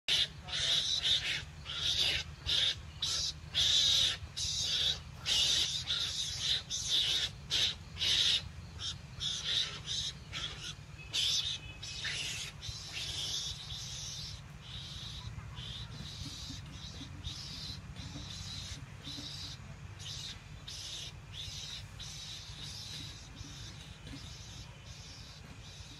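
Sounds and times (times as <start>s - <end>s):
rapid high animal calls: 0.1s - 25.9s.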